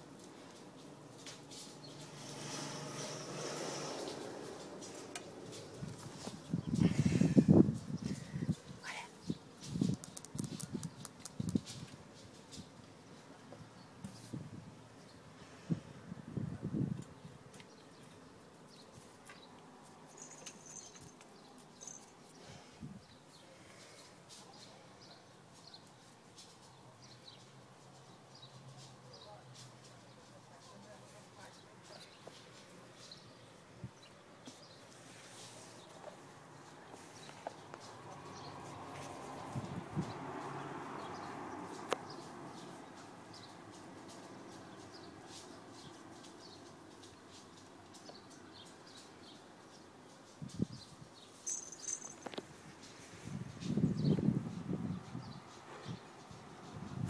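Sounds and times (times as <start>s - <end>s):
small birds chirping: 0.1s - 15.6s, 16.8s - 57.0s.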